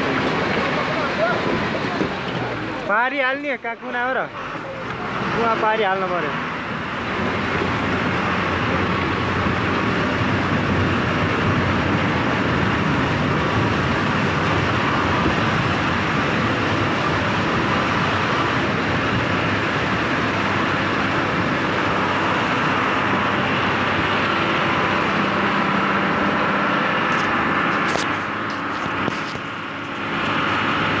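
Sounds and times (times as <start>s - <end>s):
river water churning: 0.0s - 31.0s
vehicle engine: 0.0s - 31.0s.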